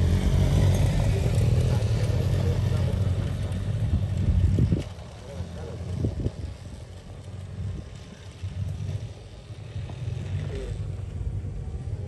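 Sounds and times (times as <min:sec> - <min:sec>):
distant motorcycle engines: 0:00.0 - 0:12.0.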